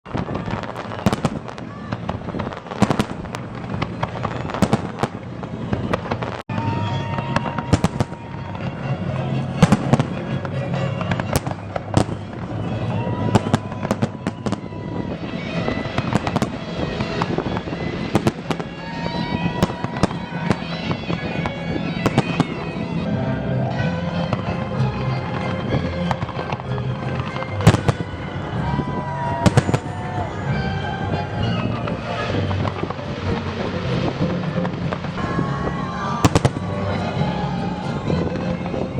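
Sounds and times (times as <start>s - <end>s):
fireworks bangs and crackles: 0.1s - 38.9s
music with drone and melody: 6.2s - 38.9s.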